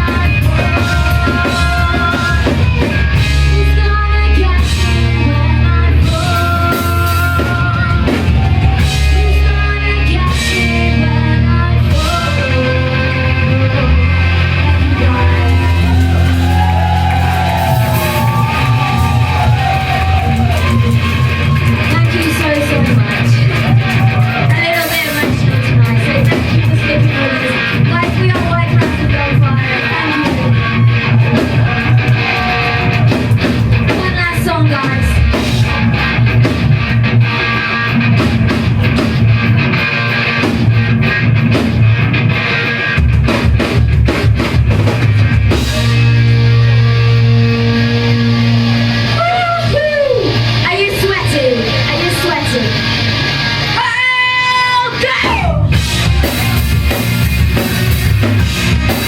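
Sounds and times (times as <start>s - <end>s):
gliding lead guitar line: 0.0s - 59.0s
live rock band playing: 0.0s - 59.0s.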